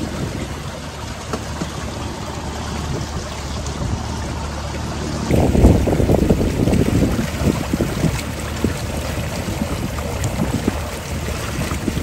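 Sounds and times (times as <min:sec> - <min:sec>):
outboard motor running: 0:00.0 - 0:12.0
water rushing along hull: 0:00.0 - 0:12.0.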